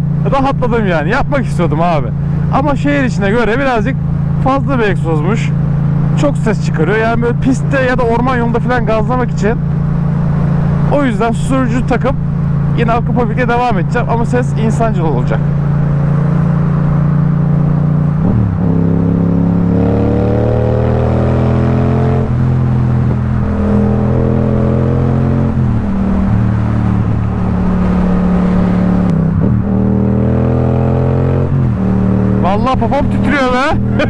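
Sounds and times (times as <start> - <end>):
motorcycle engine with loud exhaust: 0.0 - 34.0.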